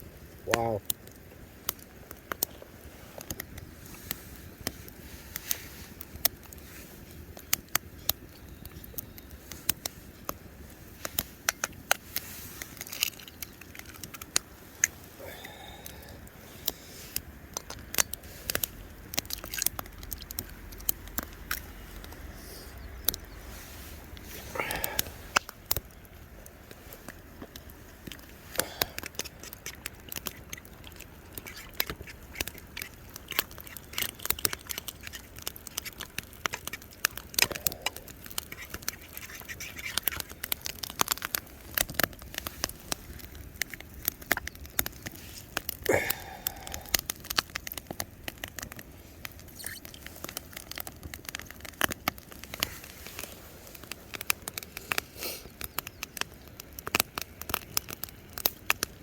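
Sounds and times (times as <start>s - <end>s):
bacon sizzling and spitting: 0.0s - 59.0s
campfire crackling: 0.0s - 59.0s.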